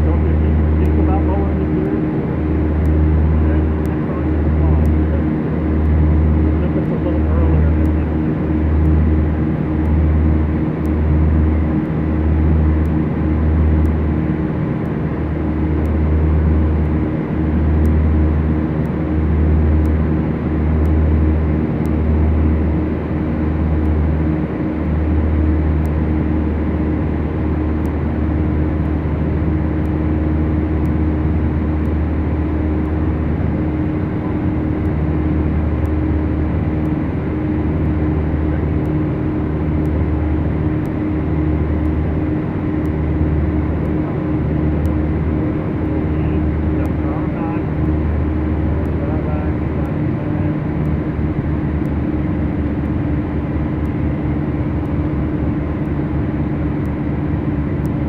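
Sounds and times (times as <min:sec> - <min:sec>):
aircraft engines and propellers droning: 0:00.0 - 0:58.0.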